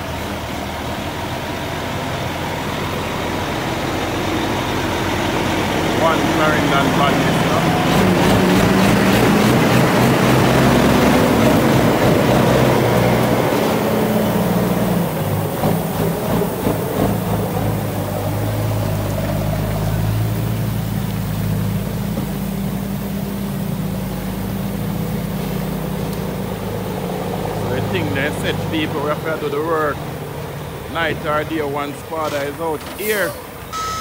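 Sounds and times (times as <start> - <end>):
diesel truck engine passing: 0.0 - 34.0.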